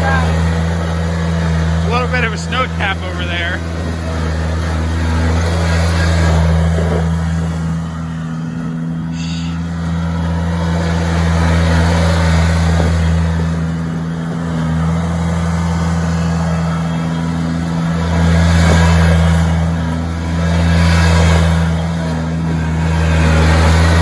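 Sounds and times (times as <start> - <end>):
mower engine running: 0.0 - 24.0.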